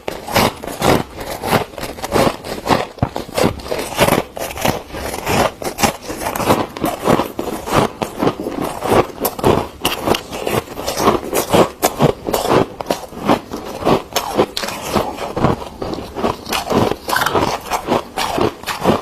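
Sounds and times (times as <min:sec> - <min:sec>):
frost being scraped: 0:00.0 - 0:19.0.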